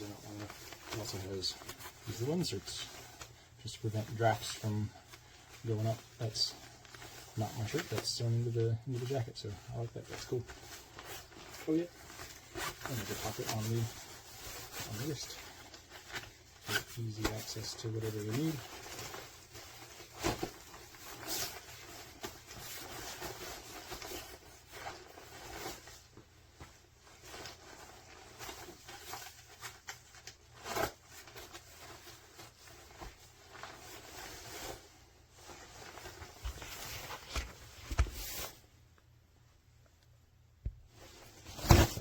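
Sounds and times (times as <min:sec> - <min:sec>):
nylon jacket fabric rustling: 0:00.0 - 0:39.1, 0:40.8 - 0:42.0.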